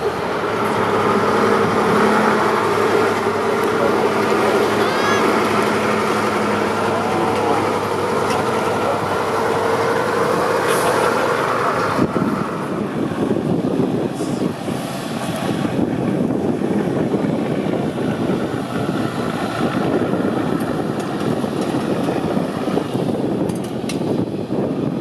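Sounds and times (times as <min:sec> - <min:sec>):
diesel truck engine running: 0:00.0 - 0:25.0
wind noise on microphone: 0:00.0 - 0:25.0.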